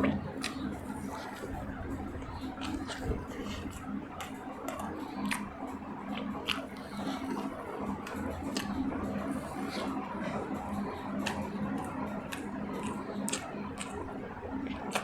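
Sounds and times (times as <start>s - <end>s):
mouth smacks and clicks: 0.0s - 15.0s
person chewing wetly: 0.0s - 15.0s
steady low hum: 0.0s - 15.0s.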